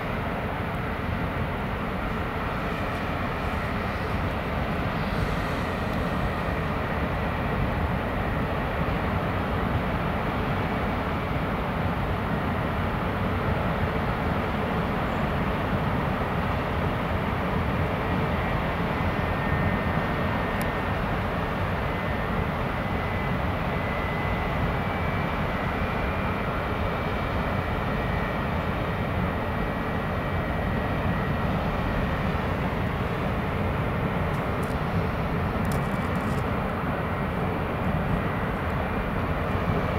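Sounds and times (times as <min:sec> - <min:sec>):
faint high whine: 0:00.0 - 0:39.9.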